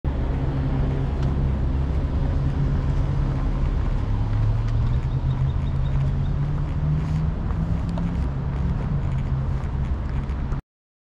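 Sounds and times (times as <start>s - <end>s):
car engine humming: 0.1s - 10.6s
road rumble: 0.1s - 10.6s.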